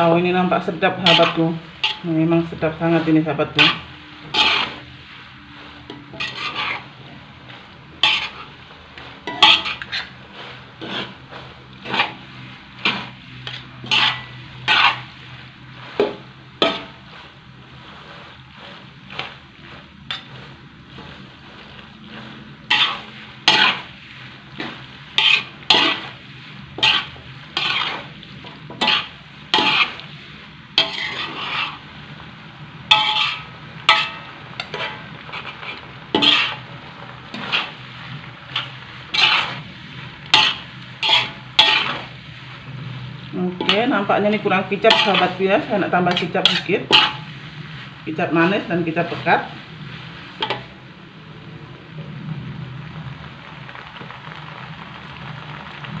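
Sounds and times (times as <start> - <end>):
spatula scraping a wok: 0.0 - 51.0
frying sizzle: 0.0 - 56.0.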